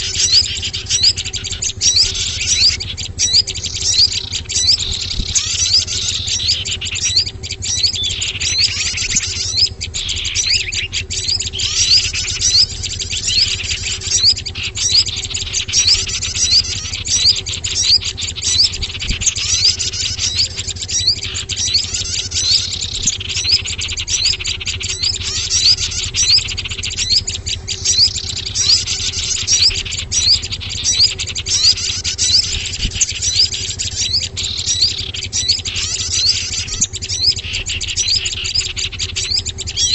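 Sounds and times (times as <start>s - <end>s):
small birds chirping and twittering: 0.0s - 39.9s
steady low hum: 0.0s - 39.9s.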